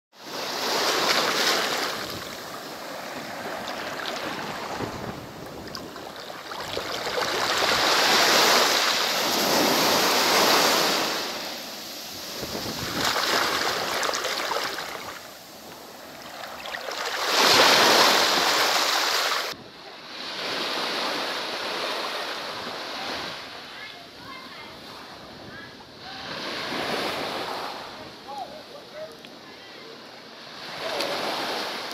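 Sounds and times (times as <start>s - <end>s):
waves washing up beach: 0.2s - 31.9s.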